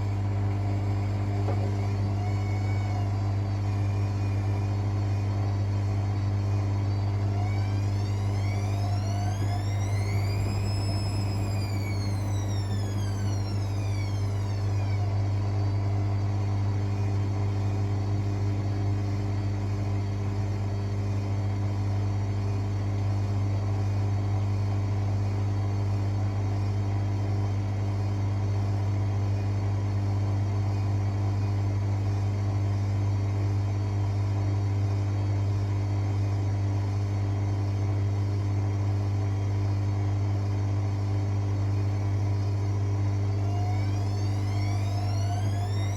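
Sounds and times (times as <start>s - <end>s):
motor whine: 0.0s - 29.4s, 33.9s - 45.9s
washing machine humming: 0.0s - 45.9s.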